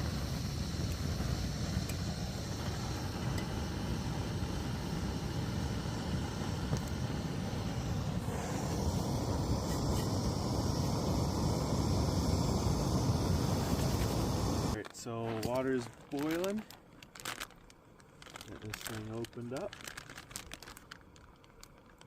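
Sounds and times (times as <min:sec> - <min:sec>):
camp stove roaring: 0:00.0 - 0:22.0.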